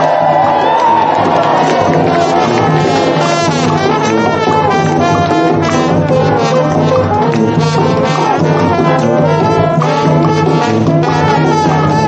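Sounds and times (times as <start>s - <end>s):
trombones playing a tune: 1.0s - 12.0s.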